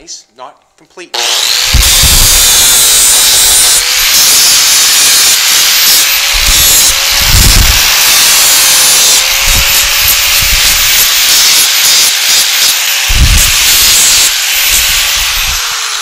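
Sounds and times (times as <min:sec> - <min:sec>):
grinder abrasive hiss: 0:01.2 - 0:16.0.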